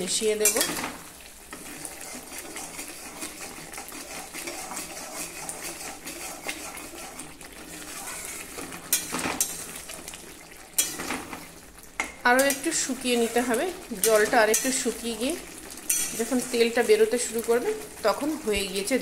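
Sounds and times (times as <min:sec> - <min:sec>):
ladle scraping a pan: 0:00.3 - 0:11.6, 0:12.4 - 0:17.4
thick sauce bubbling: 0:00.8 - 0:18.6.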